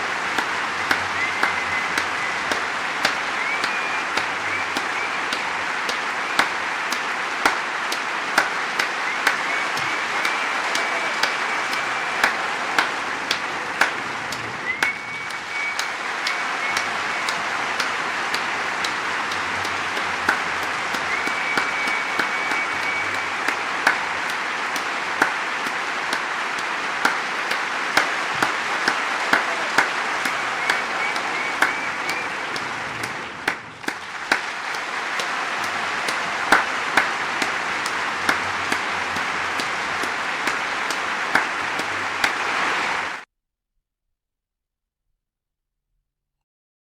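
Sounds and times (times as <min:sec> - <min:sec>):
crowd applauding: 0:00.0 - 0:43.2.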